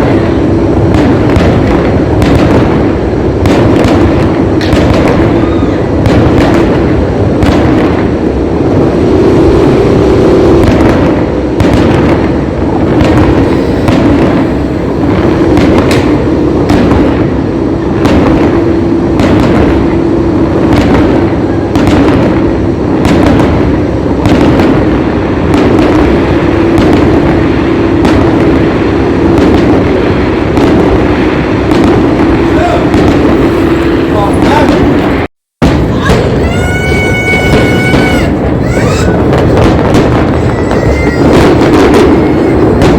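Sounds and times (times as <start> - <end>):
fireworks bursts and booms: 0.0 - 42.9.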